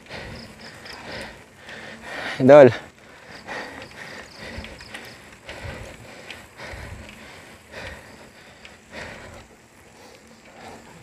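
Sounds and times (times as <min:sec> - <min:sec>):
man panting: 0:00.0 - 0:11.0.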